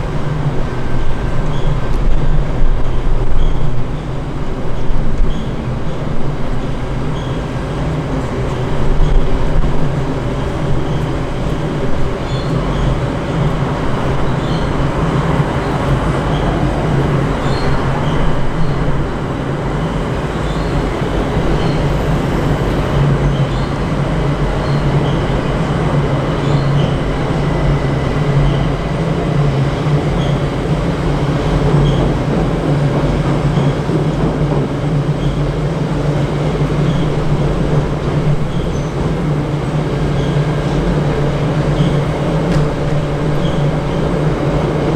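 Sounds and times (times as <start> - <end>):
rail noise: 0.0 - 44.9
train running on track: 0.0 - 44.9.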